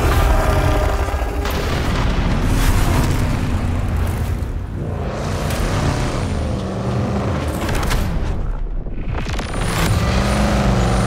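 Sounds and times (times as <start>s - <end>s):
truck engines revving: 0.0s - 8.2s, 9.4s - 11.0s.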